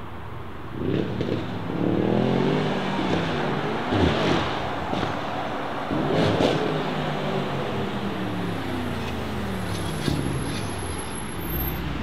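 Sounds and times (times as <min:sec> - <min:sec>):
car engines approaching: 0:00.0 - 0:12.0.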